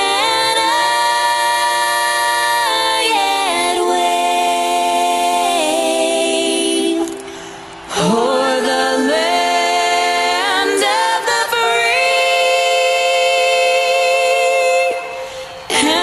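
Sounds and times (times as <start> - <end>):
a cappella choir singing: 0.0 - 16.0.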